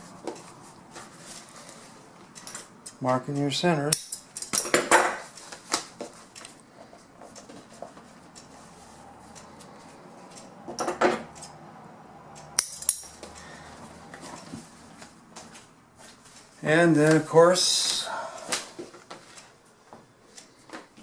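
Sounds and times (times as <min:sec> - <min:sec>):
rustle of handling: 0:00.0 - 0:03.5, 0:05.2 - 0:11.6, 0:13.1 - 0:21.0.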